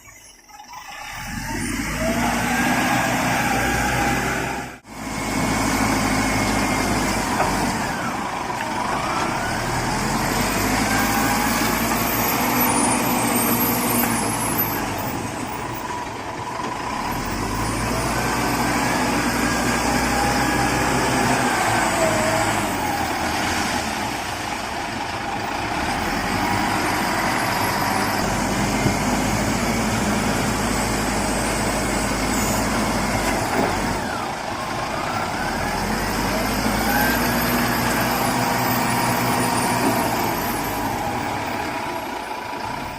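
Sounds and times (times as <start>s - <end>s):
heavy engine revving: 0.8s - 42.9s.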